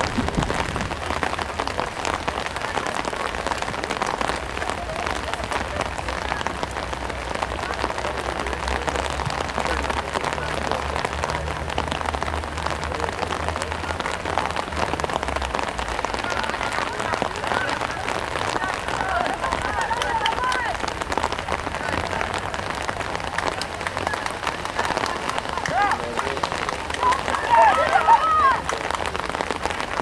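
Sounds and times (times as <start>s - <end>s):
rain pattering on a surface: 0.0s - 30.0s.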